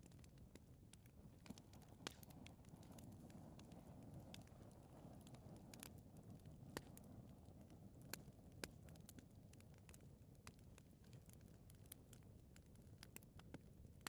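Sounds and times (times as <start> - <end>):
fire crackles and pops: 0.0 - 14.0
fireplace fire burning: 0.0 - 14.0.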